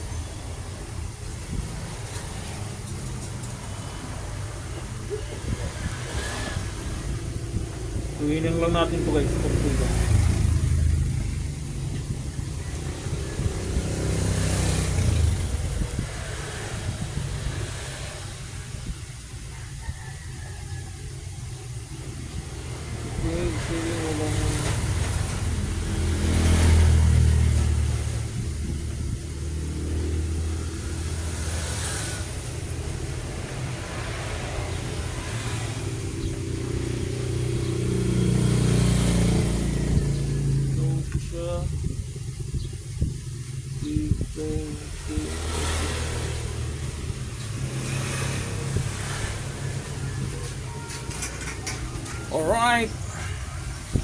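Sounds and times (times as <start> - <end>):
motor vehicle engine rumble: 0.0 - 54.0.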